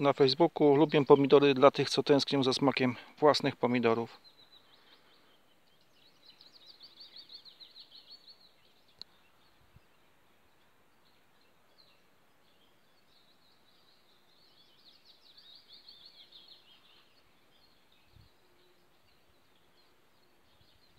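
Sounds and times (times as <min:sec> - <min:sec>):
faint songbird trills: 0:00.0 - 0:20.9.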